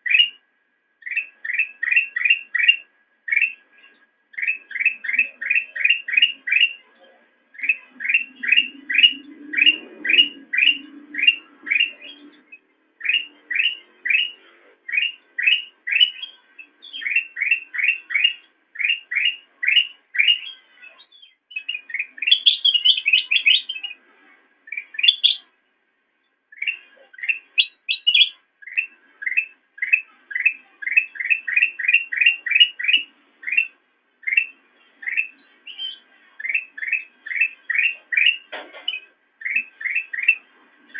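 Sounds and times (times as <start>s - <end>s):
bulbul chirping: 4.3s - 6.9s, 7.6s - 12.2s, 13.0s - 24.0s, 24.7s - 25.5s, 26.5s - 40.4s.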